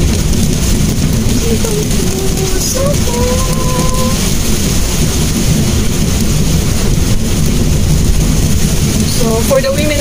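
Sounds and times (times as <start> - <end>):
engine and tyres rumbling: 0.0 - 10.0
rain hissing on a car: 0.0 - 10.0.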